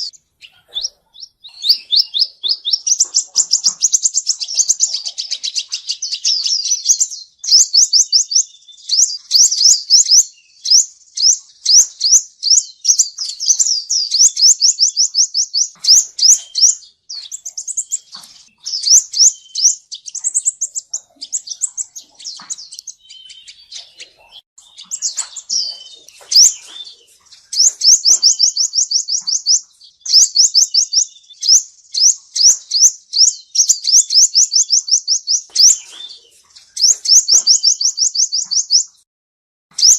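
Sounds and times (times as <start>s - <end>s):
sunbird singing high trills: 0.0s - 39.0s.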